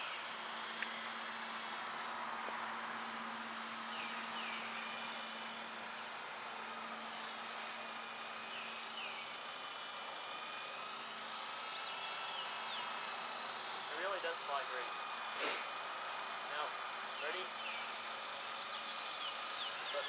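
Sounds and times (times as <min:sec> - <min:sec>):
high electric motor whine: 0:00.0 - 0:20.0
toy helicopter rotor buzz: 0:00.0 - 0:20.0.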